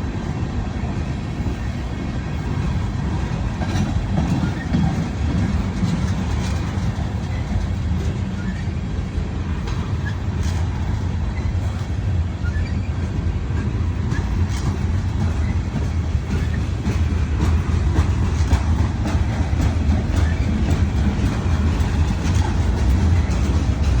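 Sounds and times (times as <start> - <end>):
train rumbling past: 0.0 - 24.0
wheels clacking on rails: 0.0 - 24.0.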